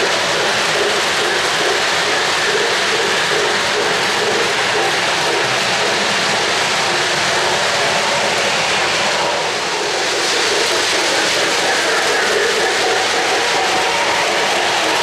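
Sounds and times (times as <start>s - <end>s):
model train wheels whirring on rails: 0.0s - 15.0s.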